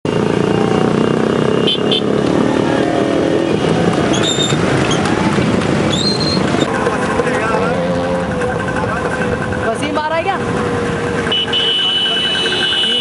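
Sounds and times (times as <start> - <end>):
motorcycle engines din: 0.0 - 13.0.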